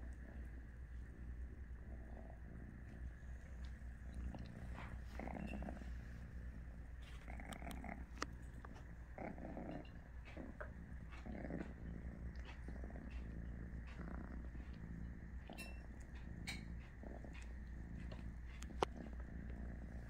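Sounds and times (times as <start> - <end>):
cat purring: 0.0 - 20.0
cats licking fur: 0.0 - 20.0.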